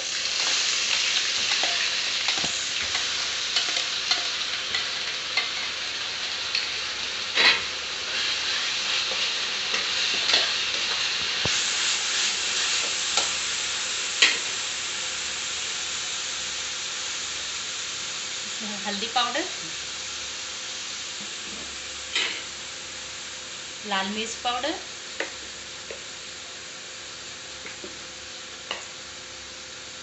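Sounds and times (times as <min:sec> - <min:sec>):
paste sizzling in hot oil: 0:00.0 - 0:30.0.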